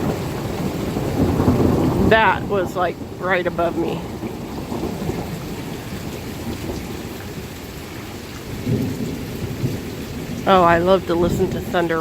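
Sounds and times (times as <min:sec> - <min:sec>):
heavy rain: 0:00.0 - 0:12.0
thunder rumbling: 0:00.0 - 0:12.0.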